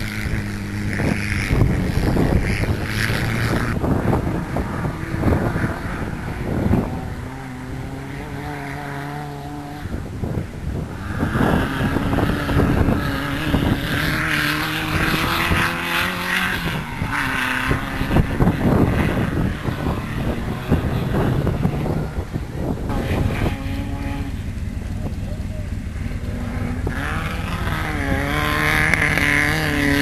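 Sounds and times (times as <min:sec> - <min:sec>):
racing buggy engines revving: 0:00.0 - 0:30.0.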